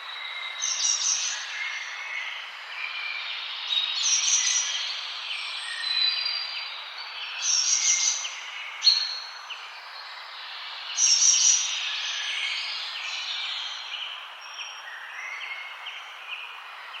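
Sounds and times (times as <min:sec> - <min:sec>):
birds singing and chirping: 0:00.0 - 0:17.0.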